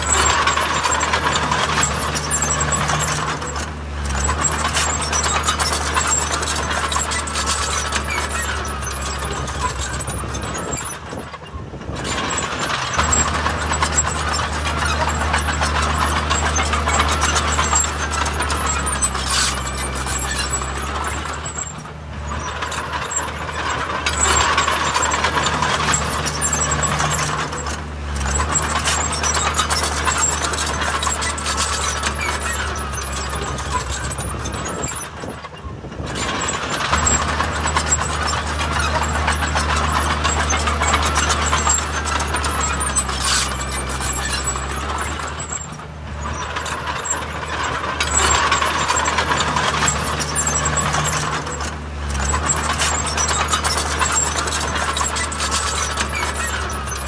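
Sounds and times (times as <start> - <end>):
diesel engine drone: 0.0 - 57.0
metallic clatter: 0.0 - 57.0.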